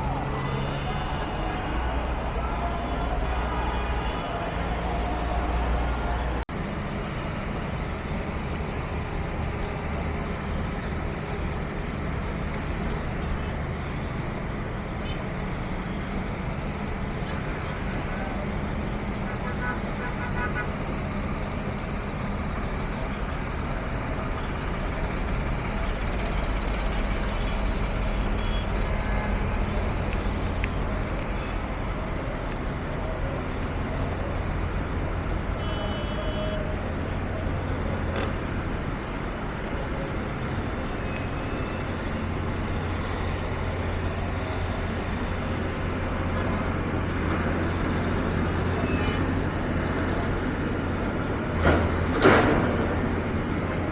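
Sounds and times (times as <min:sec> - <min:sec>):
low engine rumble: 0:00.0 - 0:53.9
passing traffic: 0:00.0 - 0:53.9.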